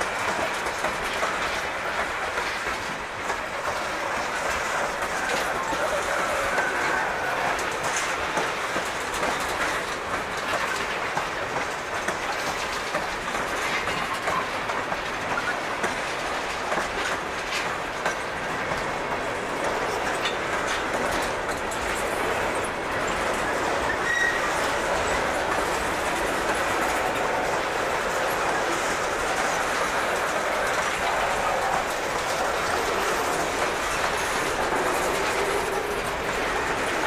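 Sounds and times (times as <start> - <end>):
freight train rolling on rails: 0.0 - 37.0
wheels clacking over rail joints: 0.0 - 37.0.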